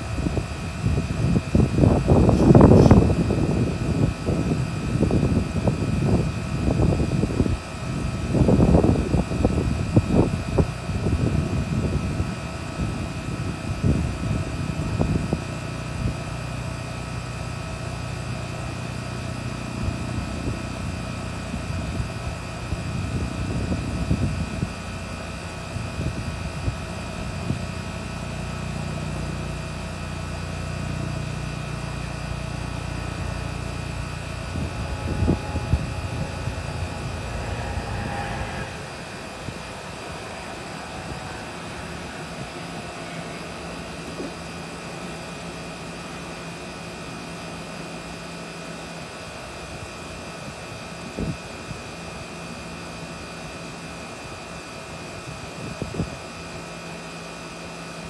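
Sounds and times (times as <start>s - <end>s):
low rumbling gusts: 0.0s - 46.7s
air conditioner unit humming: 0.0s - 58.0s
faint high whine: 0.0s - 58.0s.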